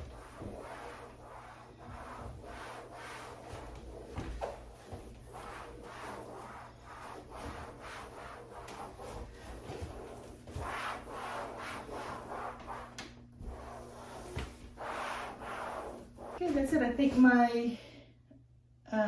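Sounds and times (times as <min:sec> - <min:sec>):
cloth wiping machine: 0:00.0 - 0:16.7.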